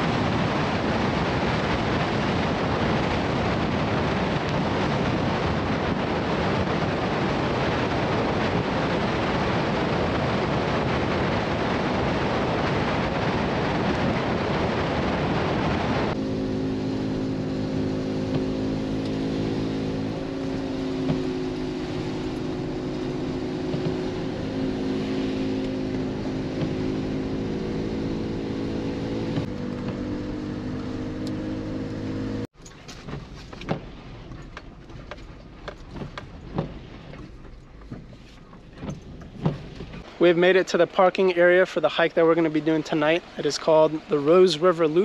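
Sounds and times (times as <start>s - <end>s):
car engine and road noise: 0.0s - 45.0s.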